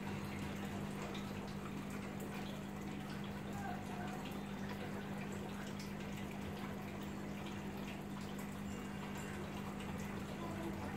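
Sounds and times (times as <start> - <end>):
water trickling and dripping: 0.0 - 10.9.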